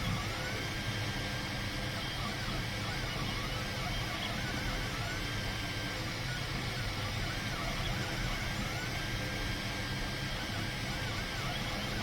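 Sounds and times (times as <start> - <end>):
printer fan hum: 0.0 - 12.0
stepper motor whines: 0.0 - 12.0.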